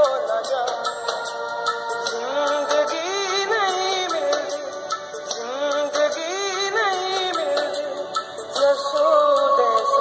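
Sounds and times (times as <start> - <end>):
devotional song: 0.0 - 10.0.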